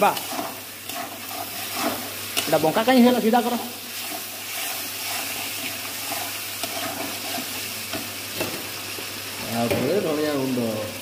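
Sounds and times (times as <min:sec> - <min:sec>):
masala sizzling in a pan: 0:00.0 - 0:11.0.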